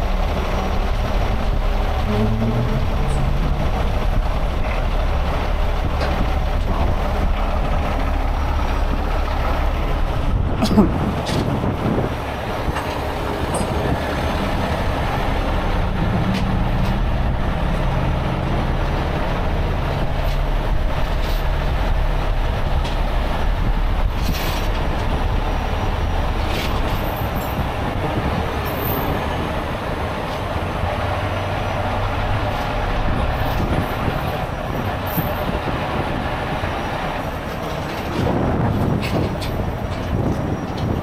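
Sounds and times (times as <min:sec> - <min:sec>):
diesel truck engine drone: 0:00.0 - 0:41.0
freeway traffic roar: 0:00.0 - 0:41.0.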